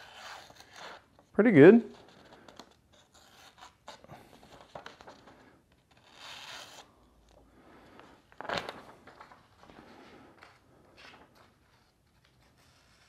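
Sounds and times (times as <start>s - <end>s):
paper rustling: 1.9s - 13.0s.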